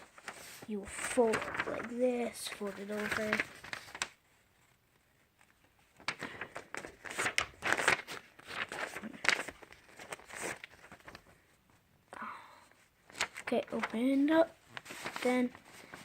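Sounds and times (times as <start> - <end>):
paper being folded and creased: 0.0 - 16.0.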